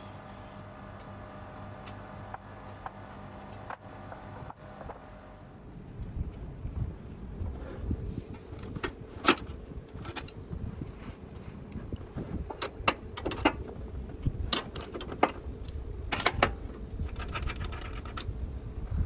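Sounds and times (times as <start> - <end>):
low rumble: 0.0 - 14.8, 15.4 - 19.0.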